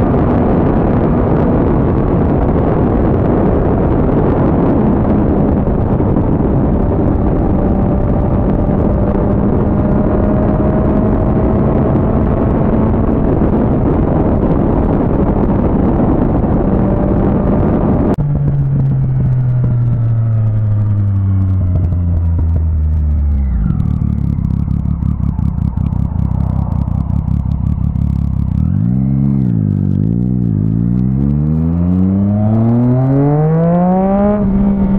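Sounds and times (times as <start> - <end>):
heavy wind rush: 0.0 - 34.9
motorcycle engine cruising: 0.0 - 34.9.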